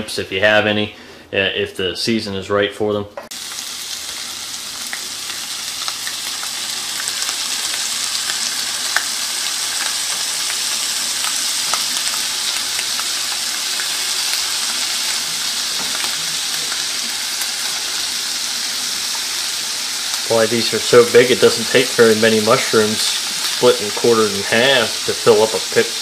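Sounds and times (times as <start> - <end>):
mushrooms sizzling in butter: 3.3 - 26.0.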